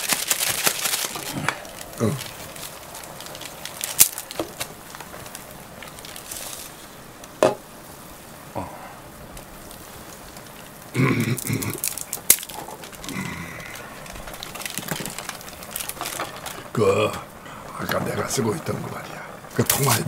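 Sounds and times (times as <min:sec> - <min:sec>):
dry noodles cracking: 0:00.0 - 0:07.4, 0:09.3 - 0:18.4, 0:19.5 - 0:20.0.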